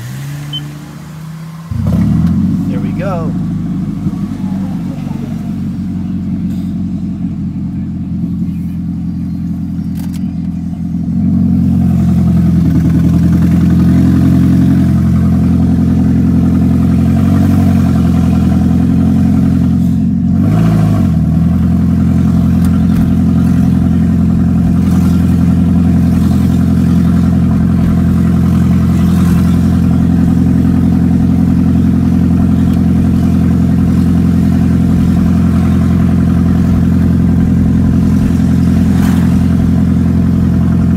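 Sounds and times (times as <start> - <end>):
loud car engine droning: 0.0 - 40.9.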